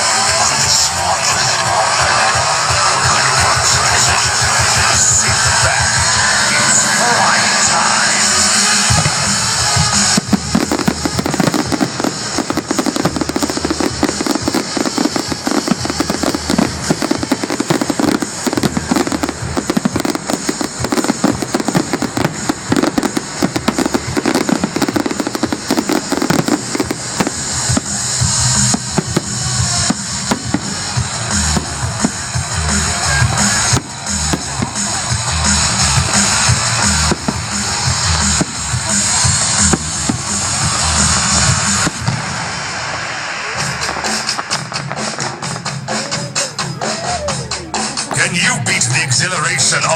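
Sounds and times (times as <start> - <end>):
fireworks bangs and crackles: 0.0 - 49.9
loud show music: 0.0 - 49.9.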